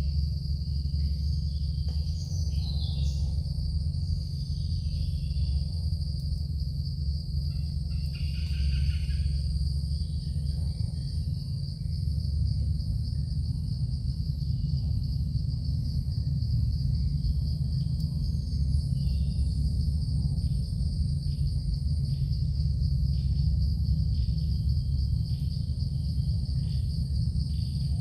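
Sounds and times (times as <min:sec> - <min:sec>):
constant low rumble: 0:00.0 - 0:28.0
insects droning high-pitched: 0:00.0 - 0:28.0.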